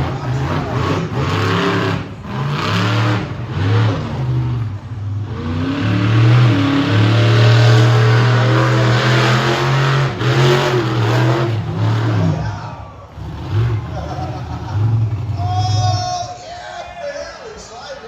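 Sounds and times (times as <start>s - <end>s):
truck engine revving: 0.0s - 16.4s.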